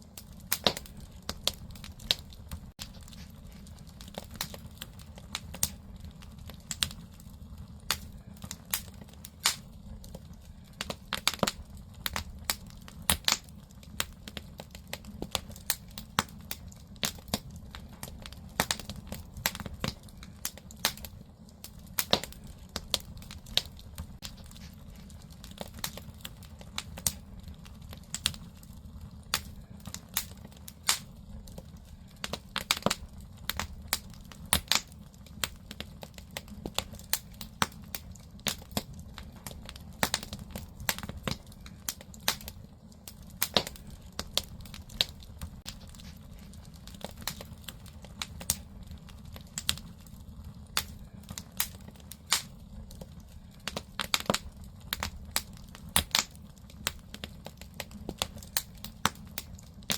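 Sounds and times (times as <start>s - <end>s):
firewood crackling and popping: 0.0s - 59.9s
low fire rumble: 0.0s - 59.9s.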